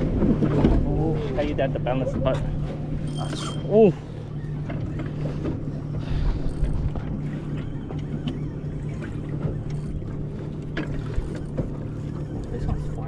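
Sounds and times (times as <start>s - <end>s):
outboard motor idling: 0.0s - 13.0s.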